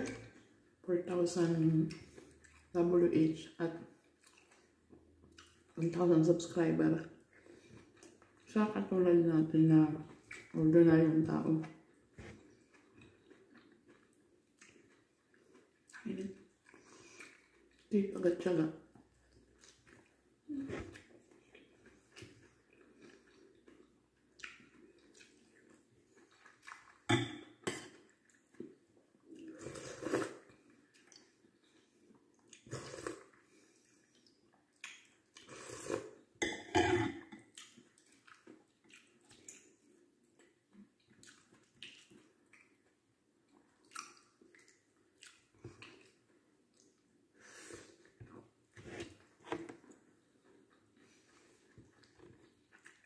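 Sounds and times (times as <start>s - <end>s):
person chewing food: 1.8s - 2.8s, 3.9s - 5.8s, 7.2s - 8.5s, 11.7s - 17.9s, 18.9s - 36.5s, 37.2s - 53.0s.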